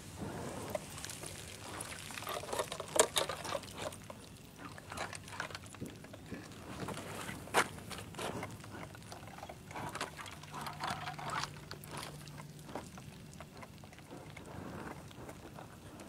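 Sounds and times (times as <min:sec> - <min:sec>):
water splashing and gurgling: 0:00.2 - 0:15.8.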